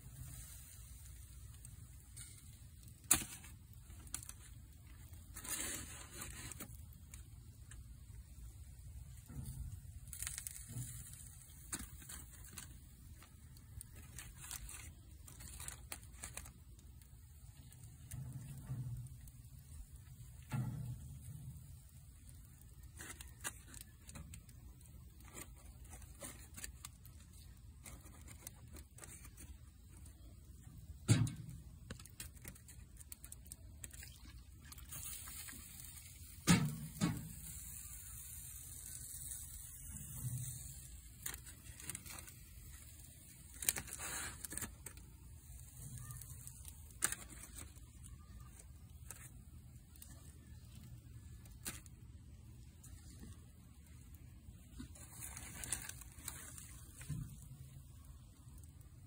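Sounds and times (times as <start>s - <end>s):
aluminium foil crinkling: 0.0s - 59.0s.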